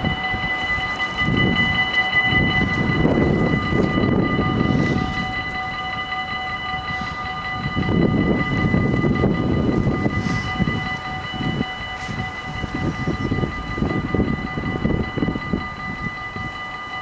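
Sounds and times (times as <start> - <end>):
gusty low rumble: 0.0 - 16.5
level crossing warning bells: 0.0 - 17.0.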